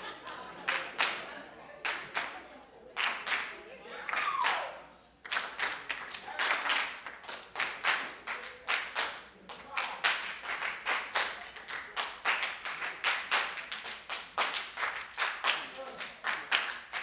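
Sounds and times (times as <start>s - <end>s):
group clapping a fast rhythm: 0.0s - 17.0s.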